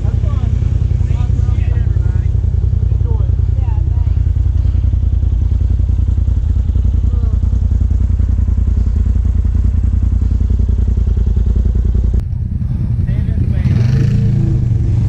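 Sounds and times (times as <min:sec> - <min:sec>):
utility vehicle engine droning: 0:00.0 - 0:15.0.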